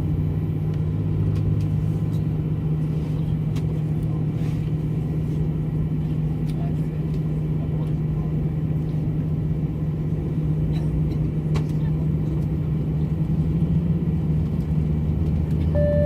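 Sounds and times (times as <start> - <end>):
jet engine cabin drone: 0.0 - 16.0.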